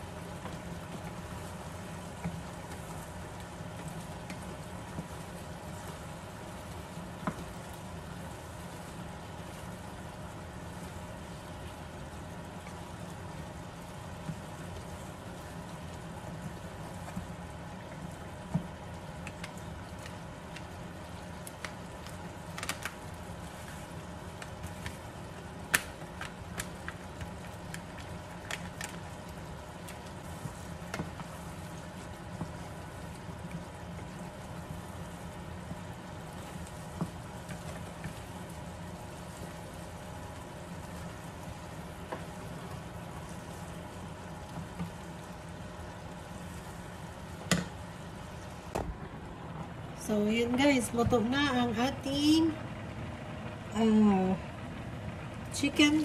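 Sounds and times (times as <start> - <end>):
curry simmering in a pan: 0.0 - 48.8
steady low hum: 0.0 - 56.0.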